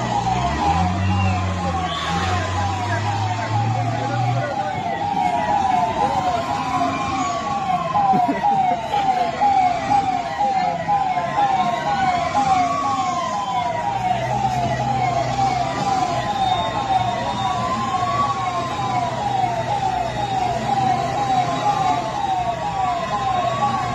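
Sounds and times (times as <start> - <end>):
siren slow wail: 0.0 - 23.9.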